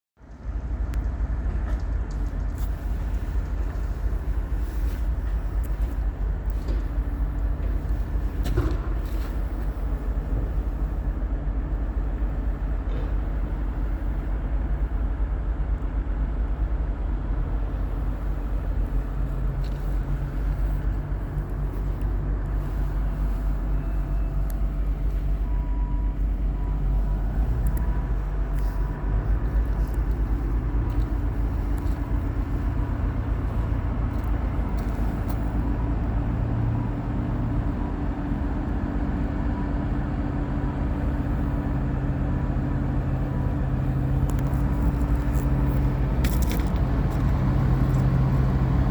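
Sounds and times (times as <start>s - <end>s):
excavator diesel engine running: 0.2s - 48.9s.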